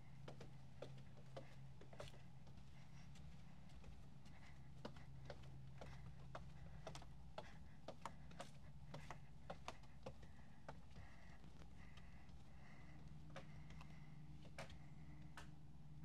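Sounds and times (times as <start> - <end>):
footsteps clicking: 0.0 - 15.6
faint low hum: 0.0 - 16.0.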